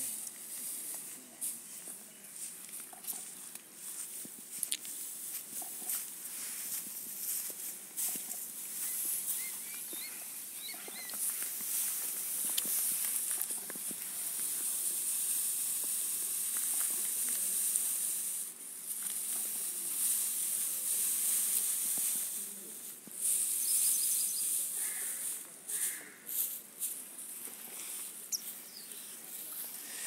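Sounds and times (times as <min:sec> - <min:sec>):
dry grass rustling: 0:00.0 - 0:30.0.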